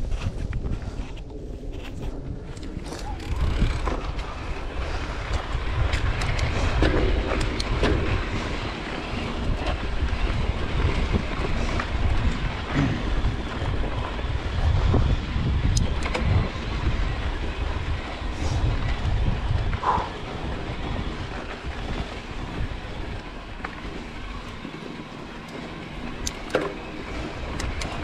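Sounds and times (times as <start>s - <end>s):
wind buffeting microphone: 0.0s - 28.0s
bike rattling clicks and knocks: 1.7s - 28.0s.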